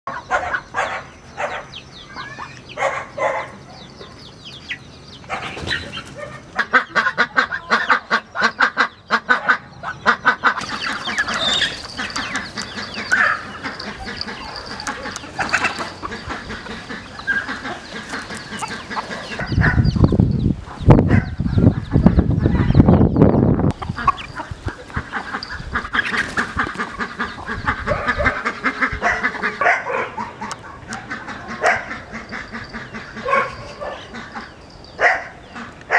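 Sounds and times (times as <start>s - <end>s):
chickens clucking and calling: 0.1s - 35.9s.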